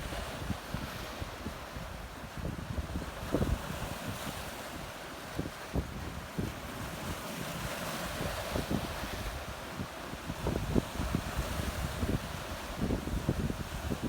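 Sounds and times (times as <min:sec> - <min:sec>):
wind buffeting microphone: 0:00.0 - 0:04.6, 0:05.3 - 0:14.0.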